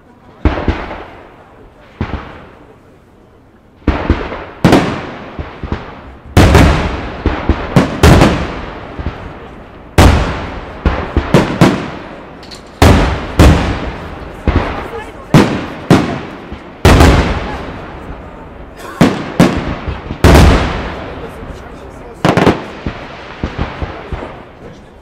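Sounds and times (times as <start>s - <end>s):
firework shells booming: 3.8s - 25.0s.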